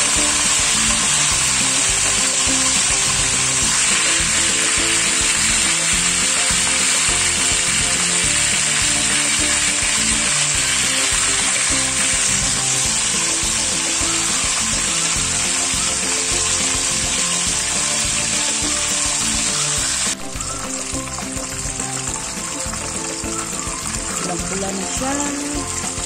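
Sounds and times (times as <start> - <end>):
oil sizzling and bubbling: 0.0 - 26.0.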